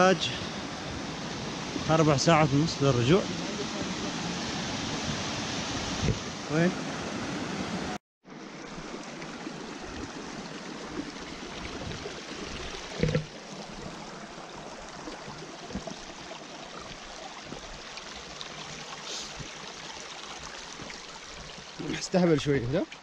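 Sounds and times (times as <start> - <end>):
stream running over rocks: 0.0 - 23.0.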